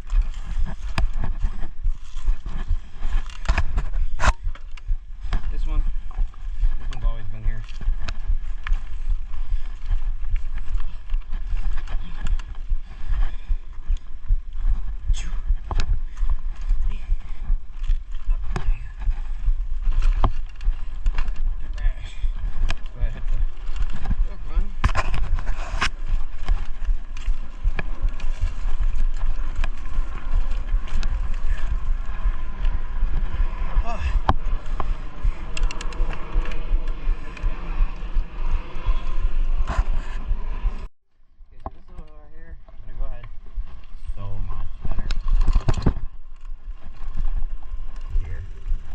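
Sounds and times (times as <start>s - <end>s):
low rumbling buffeting on microphone: 0.0s - 48.9s.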